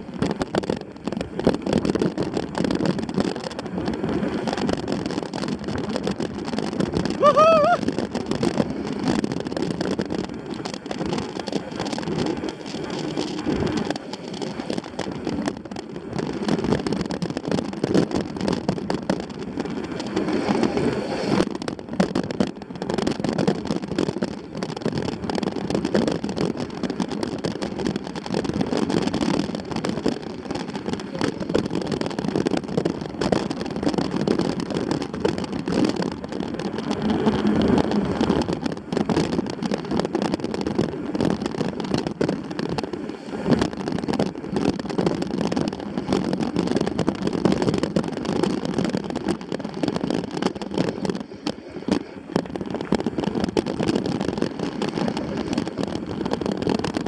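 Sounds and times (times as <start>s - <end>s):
wind rushing on microphone: 0.0s - 57.0s.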